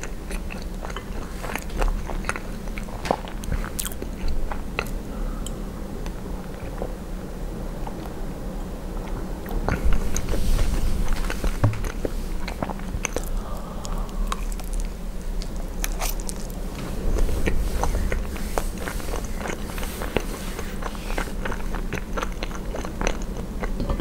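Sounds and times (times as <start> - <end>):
chewing and biting: 0.0 - 5.0, 9.1 - 24.0.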